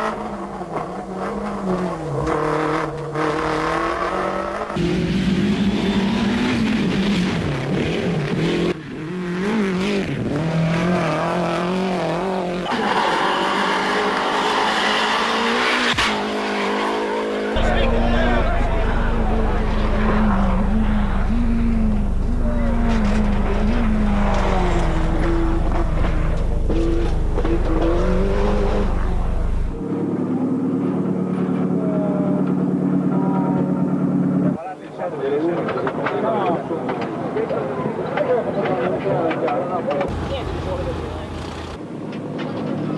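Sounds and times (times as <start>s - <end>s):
rally car engines revving: 0.0s - 34.7s, 35.3s - 42.9s.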